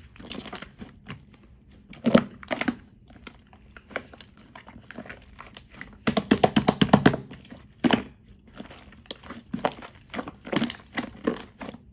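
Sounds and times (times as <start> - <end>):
slime squished by hand: 0.0 - 11.9.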